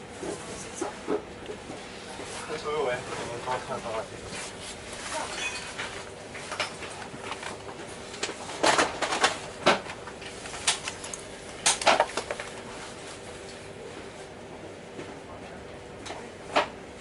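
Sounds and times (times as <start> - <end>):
train carriage hum: 0.0 - 17.0.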